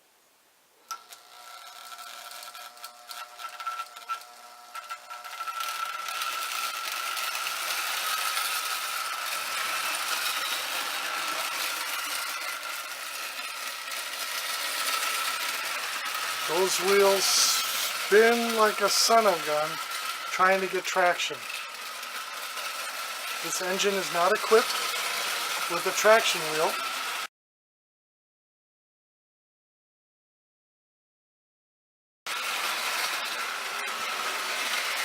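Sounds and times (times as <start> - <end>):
toy train motor whining: 0.8 - 27.3, 32.3 - 35.0.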